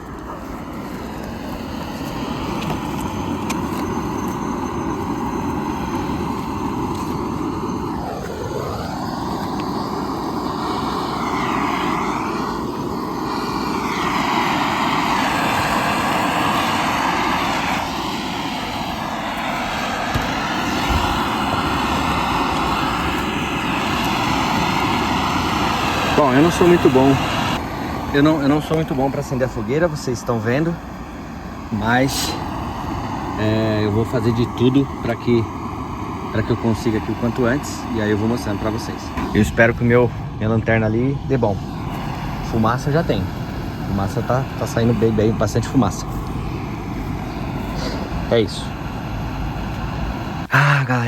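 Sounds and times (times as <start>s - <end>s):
blowtorch flame rushing: 0.0s - 51.0s.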